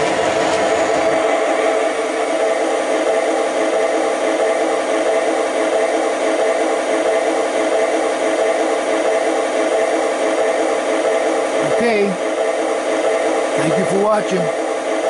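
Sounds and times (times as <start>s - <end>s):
model locomotive diesel idle sound: 0.0s - 15.0s.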